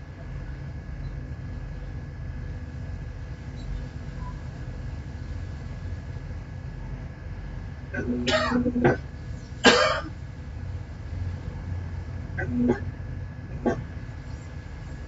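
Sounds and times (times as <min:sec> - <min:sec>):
ship engine rumbling: 0:00.0 - 0:15.0.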